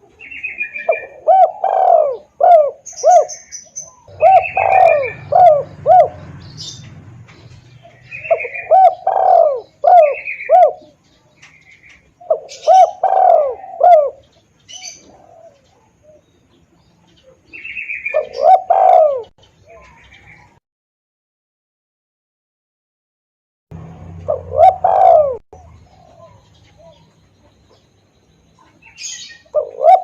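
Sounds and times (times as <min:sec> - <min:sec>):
dove cooing: 0:00.0 - 0:11.0, 0:11.9 - 0:16.5, 0:17.1 - 0:20.5, 0:24.2 - 0:27.8, 0:28.6 - 0:30.0.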